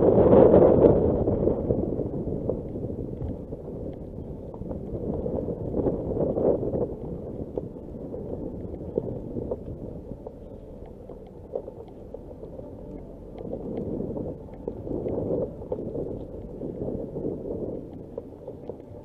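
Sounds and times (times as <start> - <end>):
tyres rumbling on gravel: 0.0 - 19.0
small stones ticking: 2.0 - 19.0.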